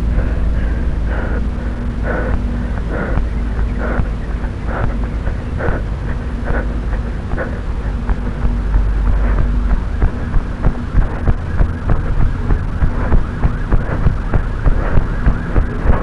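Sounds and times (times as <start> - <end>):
wind and handling rumble: 0.0 - 16.0.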